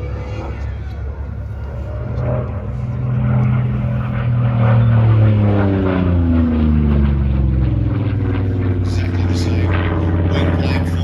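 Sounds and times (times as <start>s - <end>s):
propeller aircraft flying past: 0.0s - 11.0s.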